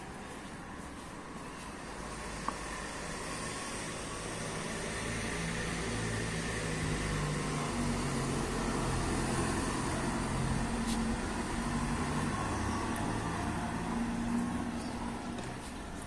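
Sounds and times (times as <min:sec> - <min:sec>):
street noise hum: 0:00.0 - 0:16.0.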